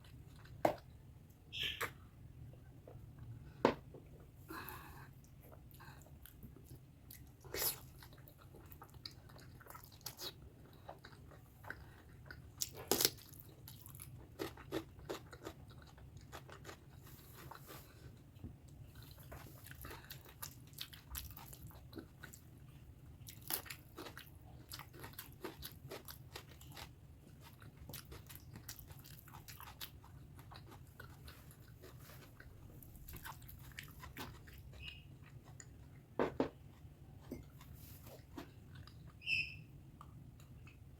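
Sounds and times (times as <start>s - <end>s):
person chewing food: 0.0s - 1.0s, 4.6s - 39.2s
low steady hum: 0.0s - 40.9s.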